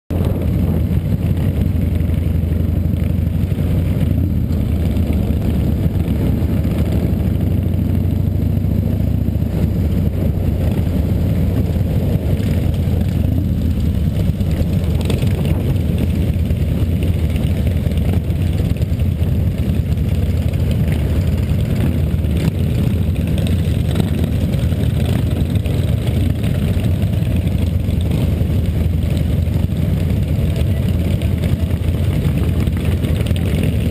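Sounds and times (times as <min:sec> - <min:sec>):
motorcycle engine rumbling: 0:00.1 - 0:33.9
other motorcycles riding nearby: 0:00.1 - 0:33.9.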